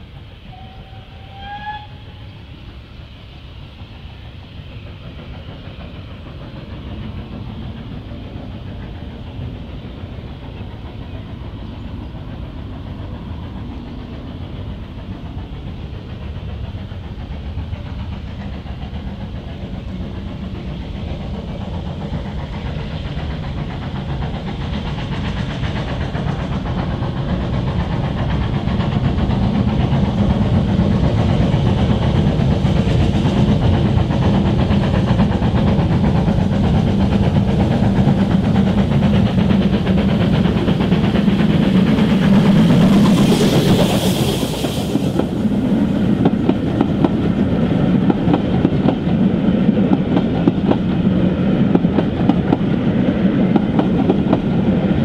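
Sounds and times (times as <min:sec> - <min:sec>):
steam locomotive exhaust: 0:00.0 - 0:55.0.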